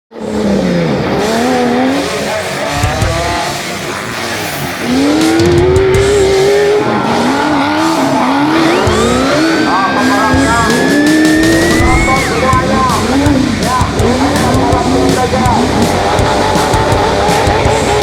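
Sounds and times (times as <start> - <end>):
engine revving hard: 0.2 - 18.0.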